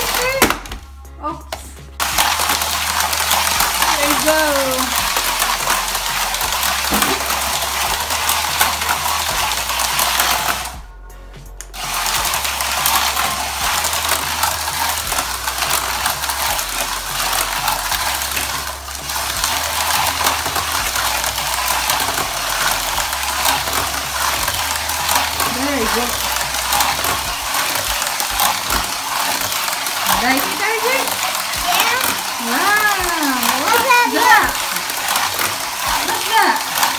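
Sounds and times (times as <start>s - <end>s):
toy car electric motor whirring: 0.0s - 0.7s, 1.4s - 10.9s, 11.6s - 36.9s.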